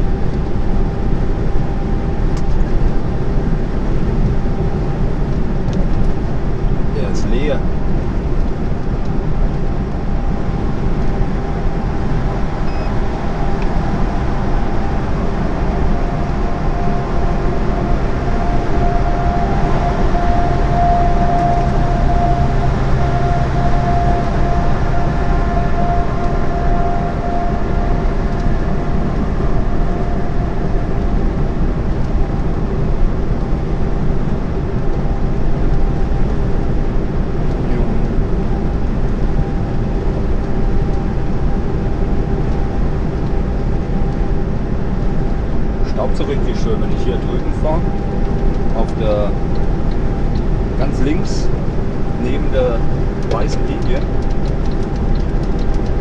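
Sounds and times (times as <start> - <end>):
diesel engine drone: 0.0 - 56.0
faint whine: 0.0 - 56.0.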